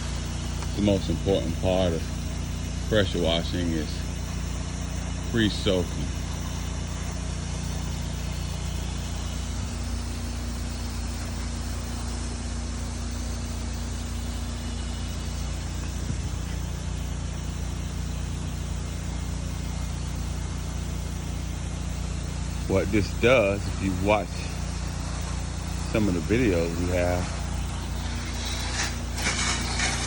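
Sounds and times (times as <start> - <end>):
hissing spray: 0.0 - 30.0
pressure washer engine running: 0.0 - 30.0.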